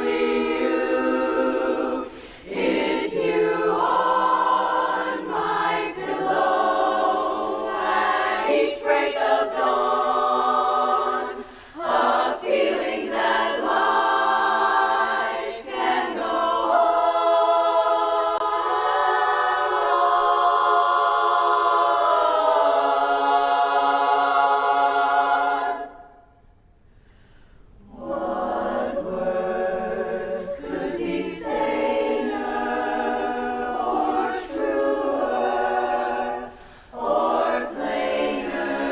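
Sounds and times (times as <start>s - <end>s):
women's chorus singing a cappella: 0.0s - 26.4s, 27.8s - 38.9s.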